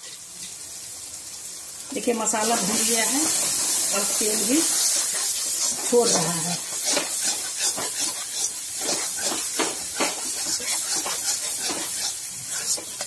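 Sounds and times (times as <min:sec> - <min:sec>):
paste sizzling in oil: 0:00.0 - 0:13.0
metal spatula scraping a pan: 0:02.4 - 0:13.0.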